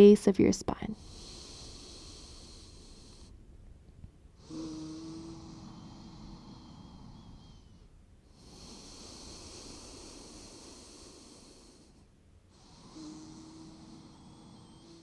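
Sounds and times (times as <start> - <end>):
deep breathing through the nose: 1.0 - 15.0.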